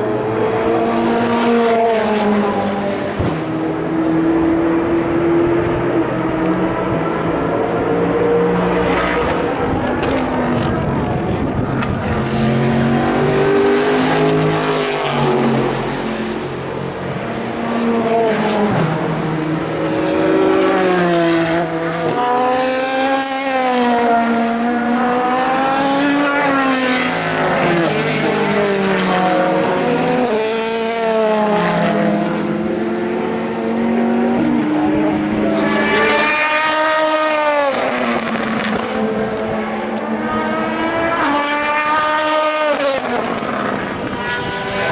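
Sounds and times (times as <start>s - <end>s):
race cars passing: 0.0s - 44.9s.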